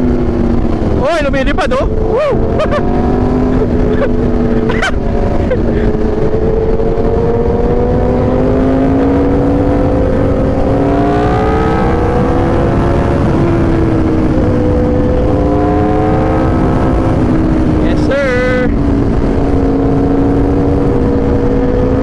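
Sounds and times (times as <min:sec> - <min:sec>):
motorcycle engine revving: 0:00.0 - 0:22.0
wind rushing: 0:00.0 - 0:22.0.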